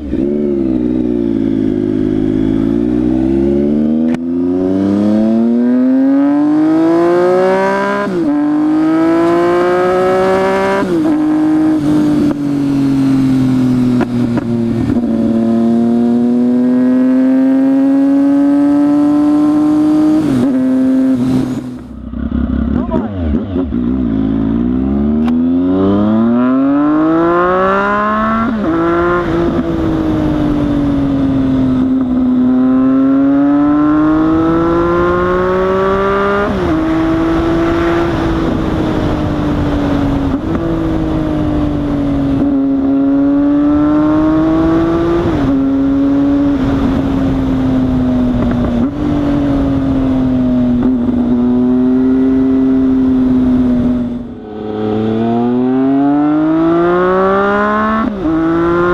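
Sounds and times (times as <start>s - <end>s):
motorcycle engine running: 0.0s - 7.2s, 8.0s - 27.3s, 28.2s - 58.9s.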